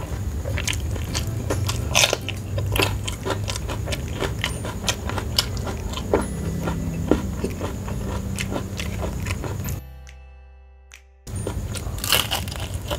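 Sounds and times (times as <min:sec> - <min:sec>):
chewing food: 0:00.0 - 0:09.8, 0:11.3 - 0:12.9.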